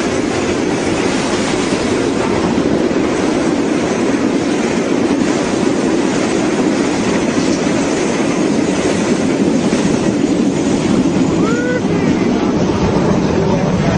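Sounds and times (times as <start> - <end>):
train passing on track: 0.0 - 13.9.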